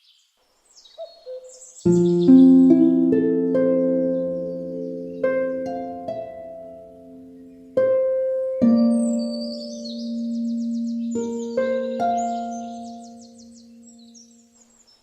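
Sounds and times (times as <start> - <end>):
bird chirping: 0.0 - 15.0
harp playing slow melody: 1.8 - 14.4.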